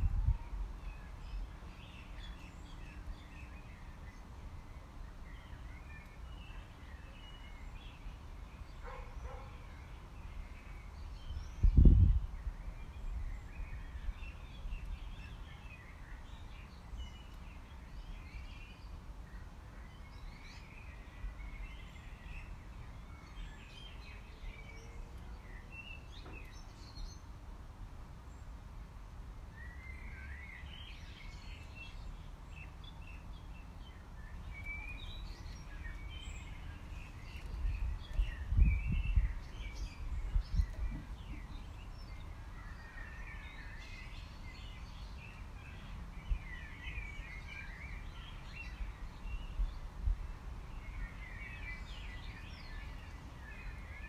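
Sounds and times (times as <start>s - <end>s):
small birds chirping: 0.0s - 27.4s, 28.1s - 54.0s.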